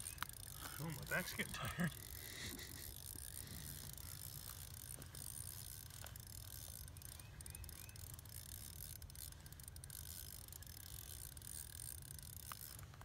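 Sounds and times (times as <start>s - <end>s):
fishing reel clicking: 0.0s - 13.0s.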